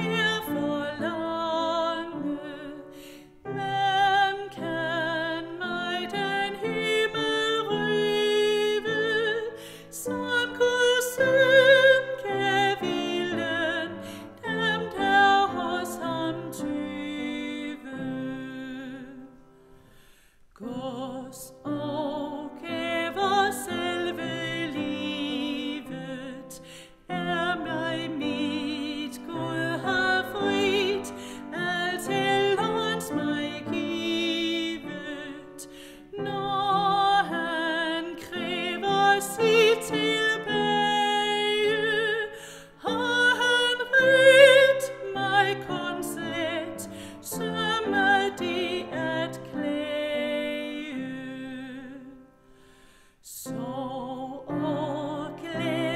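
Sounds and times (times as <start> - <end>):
woman singing a hymn: 0.0 - 19.5, 20.6 - 52.4, 53.2 - 55.9
piano: 0.0 - 55.9.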